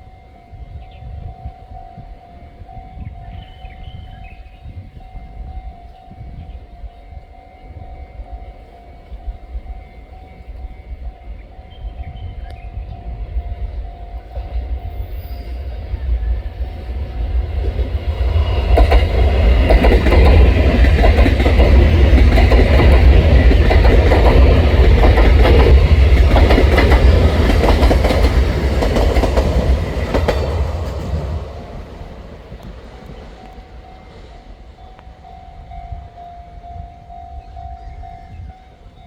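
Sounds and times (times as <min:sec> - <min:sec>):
train passing at speed: 0:00.0 - 0:39.0.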